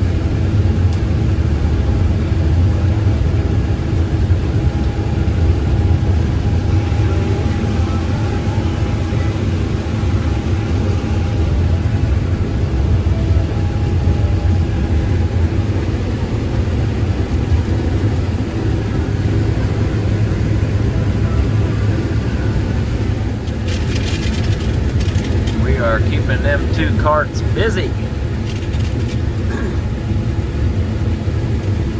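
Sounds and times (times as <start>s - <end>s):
combine harvester engine hum: 0.0s - 31.9s.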